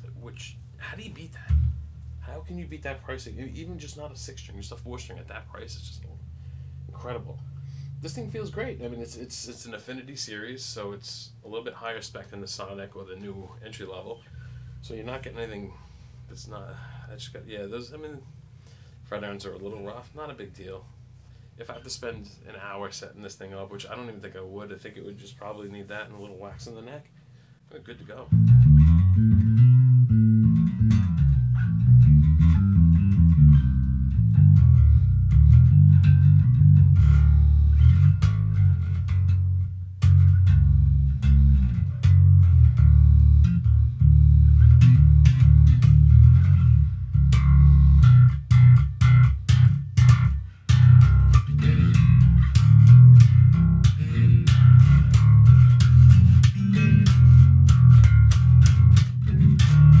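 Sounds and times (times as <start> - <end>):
electric bass played fingerstyle: 0.0 - 22.8, 28.1 - 60.0.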